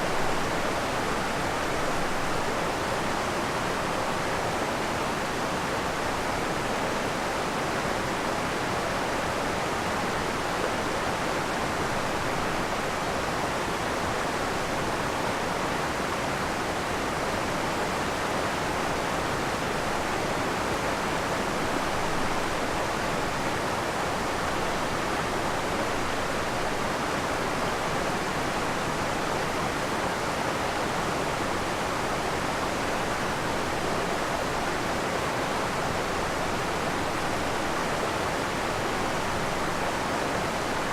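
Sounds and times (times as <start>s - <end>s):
waterfall rushing water: 0.0s - 40.9s.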